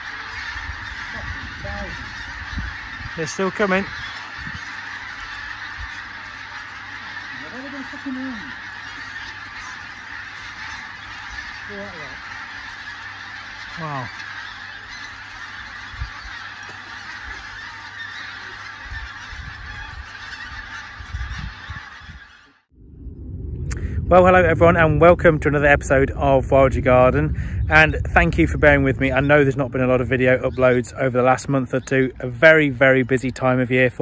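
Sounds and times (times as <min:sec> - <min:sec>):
geese honking in flight: 0:00.0 - 0:22.7, 0:24.2 - 0:34.0.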